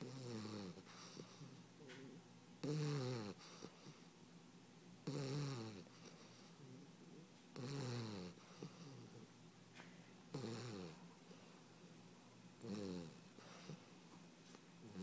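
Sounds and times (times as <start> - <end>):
soft breaths: 0.0 - 2.3, 3.3 - 4.4, 5.8 - 15.0
puppy snoring: 0.0 - 4.1, 5.0 - 9.4, 10.3 - 14.0, 14.8 - 15.0.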